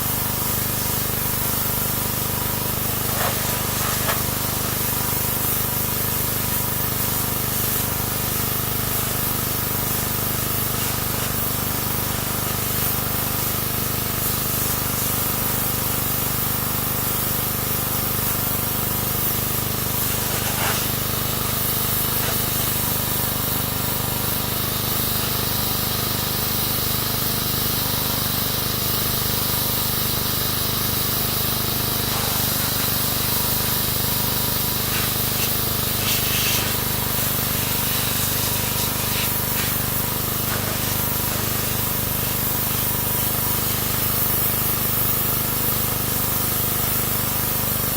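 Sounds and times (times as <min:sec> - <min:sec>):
pressure washer spray hissing: 0:00.0 - 0:47.9.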